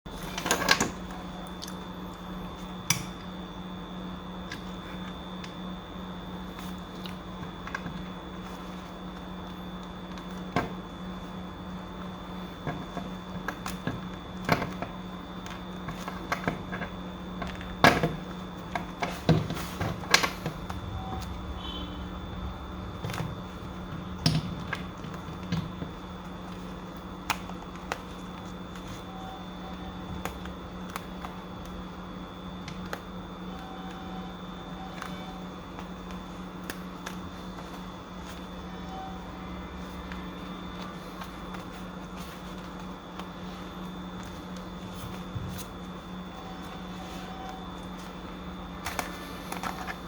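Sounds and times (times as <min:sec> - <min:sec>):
low electrical hum: 0:00.1 - 0:50.0.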